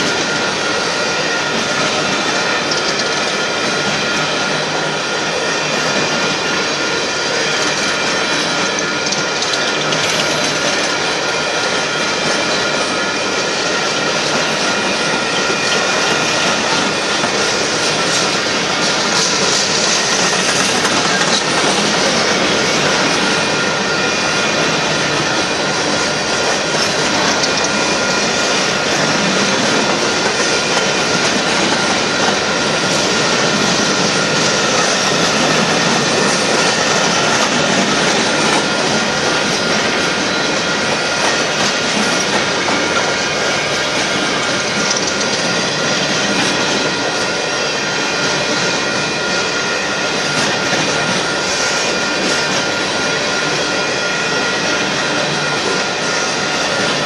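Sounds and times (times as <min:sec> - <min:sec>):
steel wheels on rails: 0:00.0 - 0:57.0.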